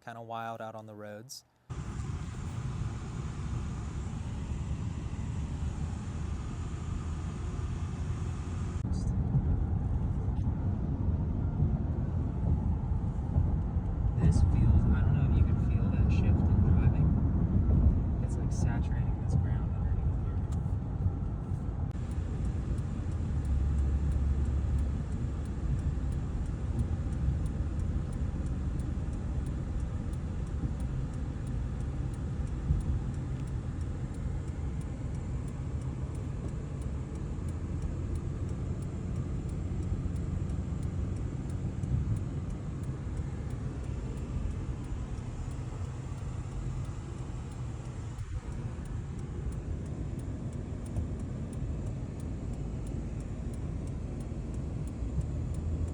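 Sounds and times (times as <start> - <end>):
road and engine rumble: 1.6 - 55.9.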